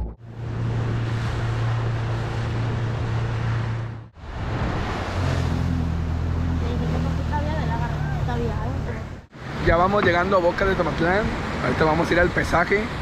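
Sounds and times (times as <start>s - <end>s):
wind: 0.0s - 13.0s
rushing water: 0.2s - 13.0s.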